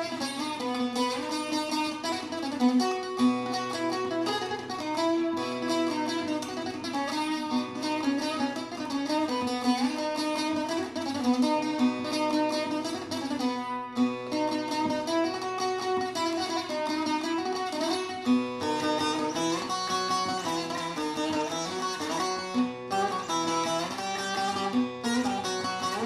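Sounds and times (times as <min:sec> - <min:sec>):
plucked string instrument melody: 0:00.0 - 0:26.0.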